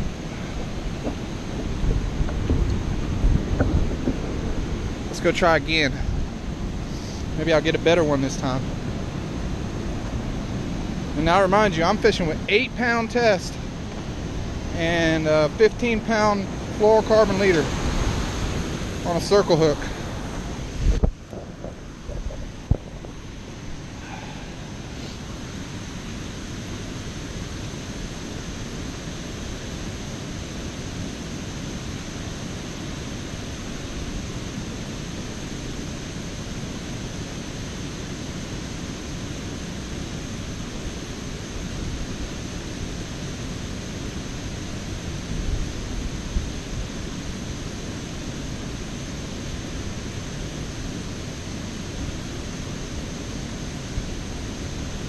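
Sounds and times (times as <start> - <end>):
low wind gusts buffeting: 0.0 - 55.0
wind rushing on microphone: 0.0 - 55.0.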